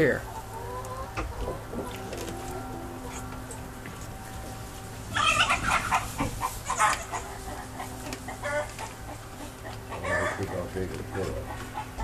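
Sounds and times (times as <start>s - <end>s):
farm animal calls: 0.0s - 12.0s.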